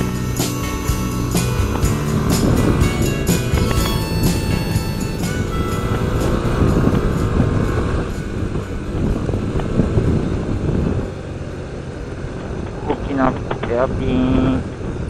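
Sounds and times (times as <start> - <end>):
motorcycle engine rumble: 0.0 - 15.0
wind and road noise: 0.0 - 15.0.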